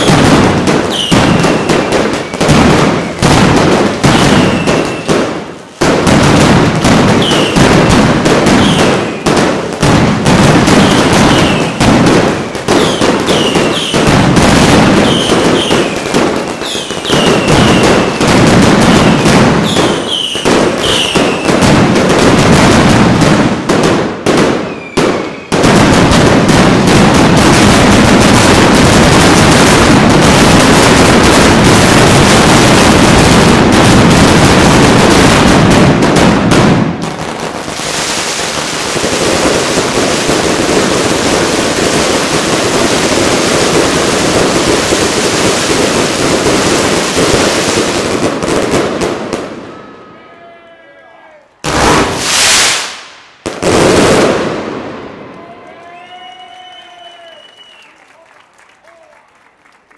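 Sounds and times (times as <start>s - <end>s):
firecrackers cracking rapidly: 0.0s - 49.5s, 51.6s - 55.0s
continuous firework barrage: 0.0s - 50.2s, 51.6s - 55.6s
whistling fireworks: 0.0s - 50.6s, 51.6s - 58.2s.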